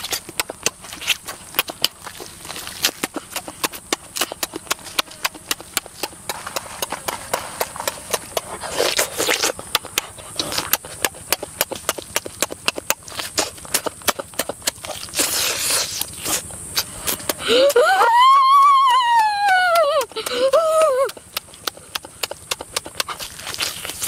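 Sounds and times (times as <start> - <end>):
wet chewing and lip smacks: 0.0 - 17.8, 19.2 - 24.0.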